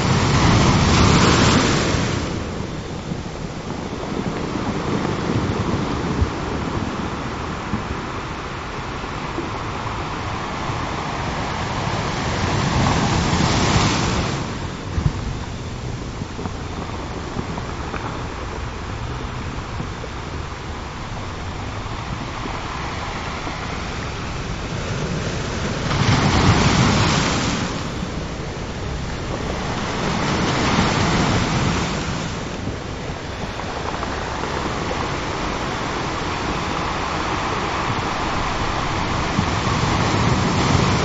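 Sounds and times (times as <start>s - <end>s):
ocean surf washing in: 0.0s - 41.0s
waves breaking: 0.0s - 41.0s.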